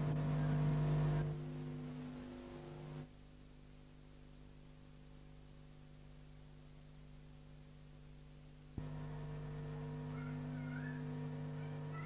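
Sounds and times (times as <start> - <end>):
electrical hum: 0.0 - 12.0
faint tape hiss: 0.0 - 12.0.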